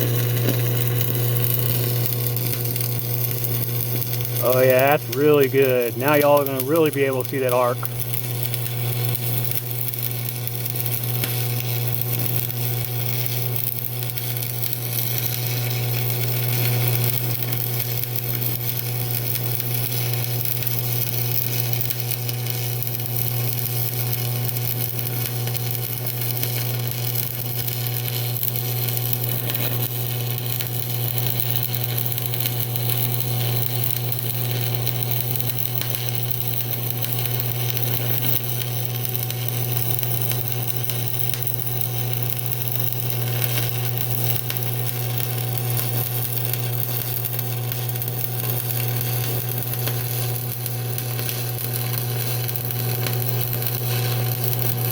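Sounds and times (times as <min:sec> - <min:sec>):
welding arc crackling and hissing: 0:00.0 - 0:54.9.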